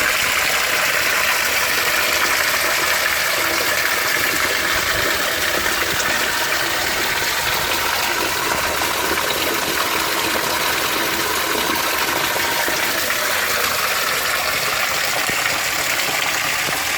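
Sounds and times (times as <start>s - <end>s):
water rushing and splashing: 0.0s - 16.9s.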